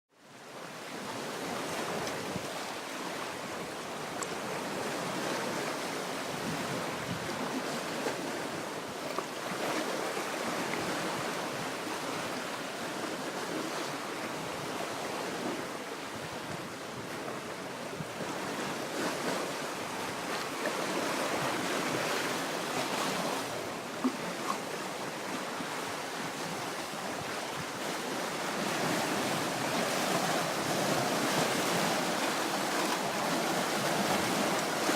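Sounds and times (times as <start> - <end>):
waves washing onto shore: 0.2 - 34.9.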